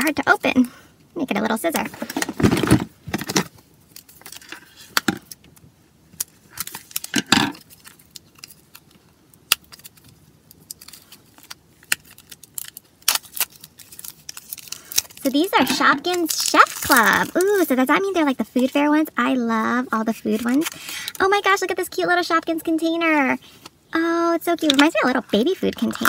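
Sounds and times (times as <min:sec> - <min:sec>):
plastic shrink-wrap crinkling: 0:01.7 - 0:05.6, 0:06.2 - 0:23.6, 0:24.5 - 0:26.0.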